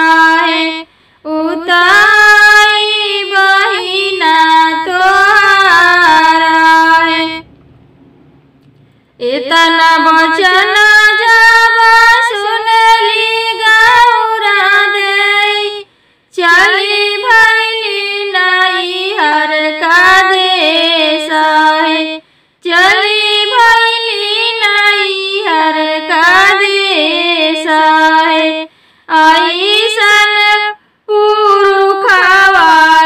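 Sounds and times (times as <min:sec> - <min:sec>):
woman singing unaccompanied: 0:00.0 - 0:07.5, 0:09.2 - 0:33.0.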